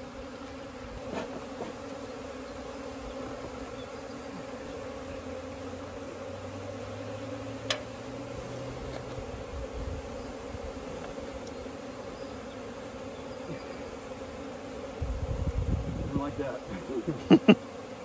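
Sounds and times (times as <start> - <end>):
honey bee swarm buzzing: 0.0 - 18.0.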